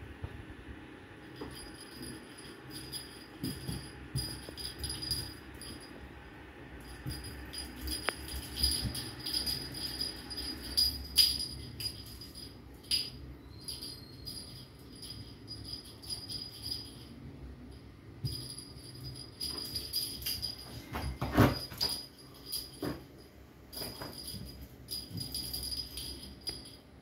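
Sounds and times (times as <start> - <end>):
small bell jingling: 1.2 - 6.0, 6.8 - 27.0.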